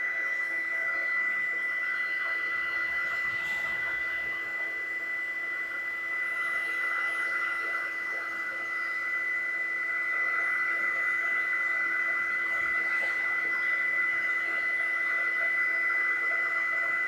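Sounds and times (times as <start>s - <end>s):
heat gun blowing with high whine: 0.0s - 17.0s.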